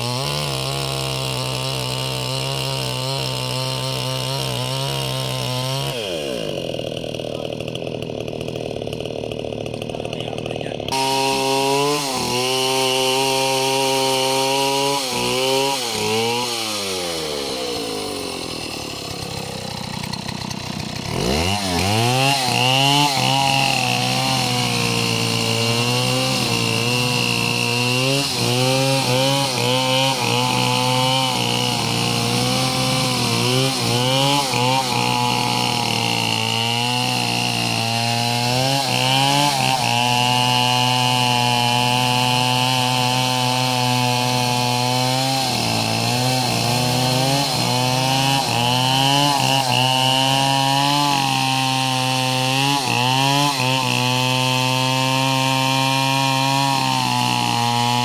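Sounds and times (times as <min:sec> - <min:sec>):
chainsaw revving and cutting wood: 0:00.0 - 0:58.0.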